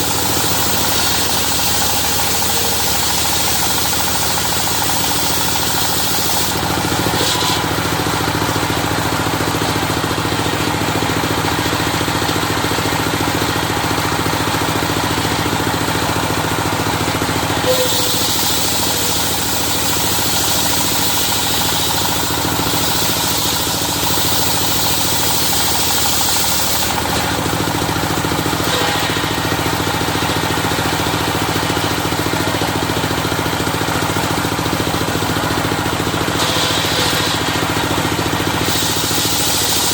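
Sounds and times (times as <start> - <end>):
saw blade cutting log: 0.0 - 10.6, 15.1 - 39.9
sawmill engine drone: 0.0 - 39.9.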